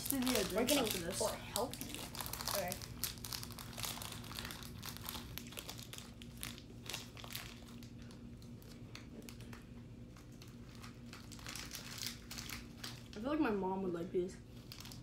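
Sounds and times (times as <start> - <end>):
plastic snack packet crinkling: 0.0 - 13.4, 14.5 - 15.0.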